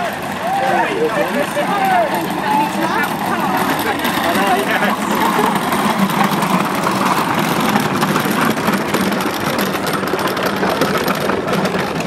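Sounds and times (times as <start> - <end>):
engine humming: 0.0 - 12.0
outdoor noise: 0.0 - 12.0.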